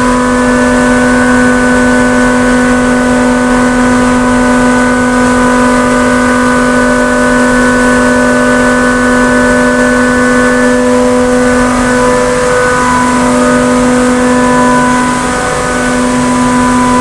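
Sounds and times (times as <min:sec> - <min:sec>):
chiller machinery humming: 0:00.0 - 0:17.0.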